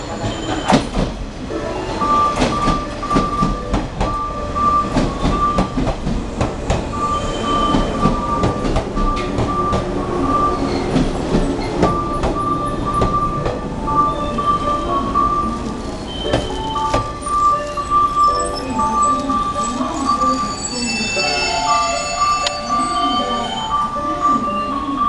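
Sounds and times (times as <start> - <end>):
train wheels clacking: 0.0 - 21.8.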